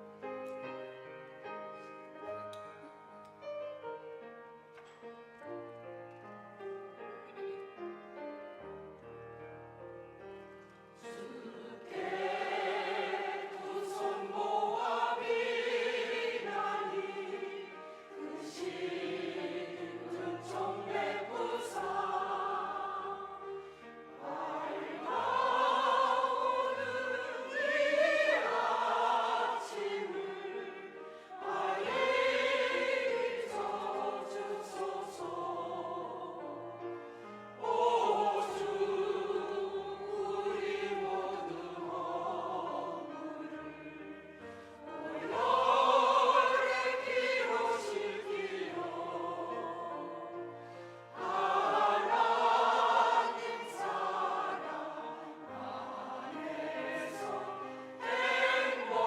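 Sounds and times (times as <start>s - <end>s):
piano accompaniment: 0.0s - 59.0s
choir singing a hymn: 10.9s - 59.0s.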